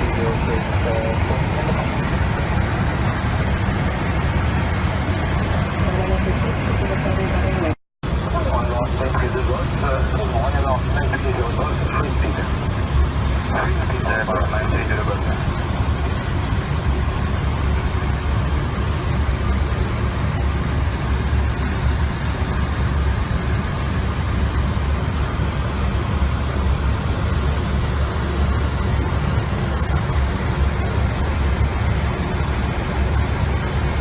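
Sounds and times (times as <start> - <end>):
deep rushing of air and engines: 0.0 - 34.0.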